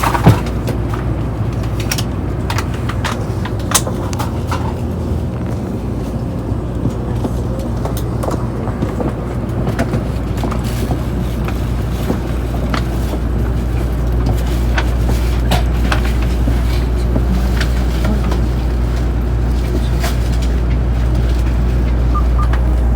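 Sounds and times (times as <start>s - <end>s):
train rumble inside passenger car: 0.0s - 22.9s.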